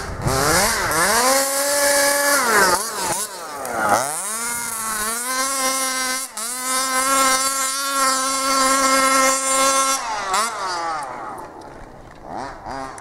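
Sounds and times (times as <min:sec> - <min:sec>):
two-stroke engine buzzing: 0:00.0 - 0:13.0.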